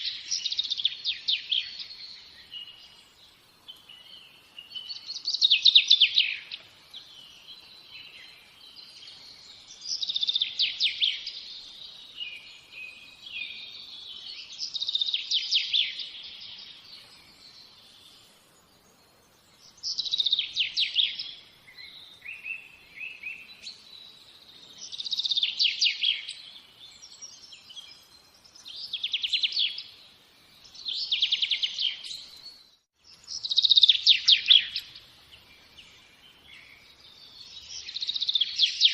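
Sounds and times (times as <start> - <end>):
songbird singing trilled phrases: 0.0 - 38.9.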